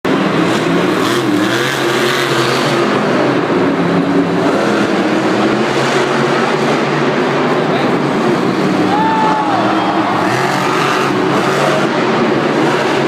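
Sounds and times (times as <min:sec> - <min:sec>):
monster truck engine running: 0:00.0 - 0:13.0.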